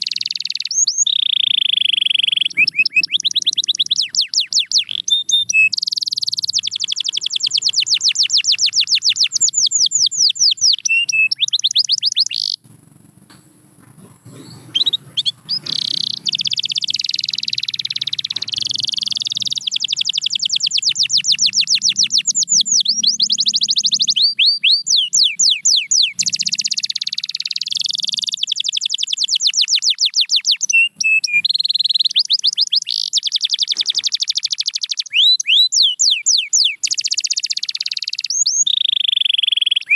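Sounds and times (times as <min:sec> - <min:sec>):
canary singing trills: 0:00.0 - 0:12.7, 0:13.3 - 0:39.9.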